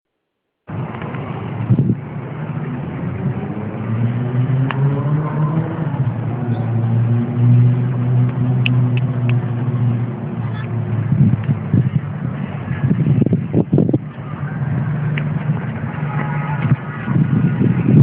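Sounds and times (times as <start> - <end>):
engine running: 0.7 - 18.0.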